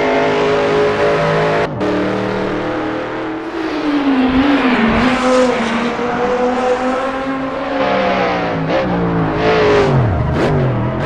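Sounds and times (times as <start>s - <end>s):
race car engine: 0.0s - 11.0s.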